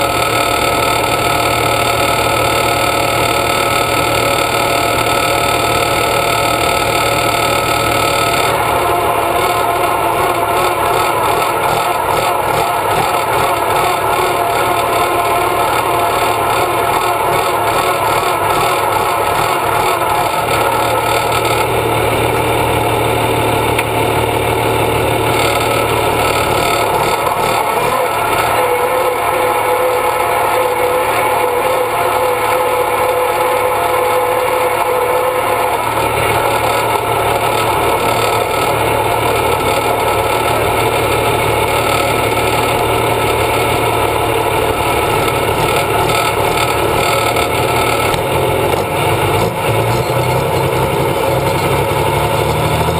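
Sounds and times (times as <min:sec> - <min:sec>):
engine whine: 0:00.0 - 0:52.9
tractor diesel engine at high revs: 0:00.0 - 0:52.9.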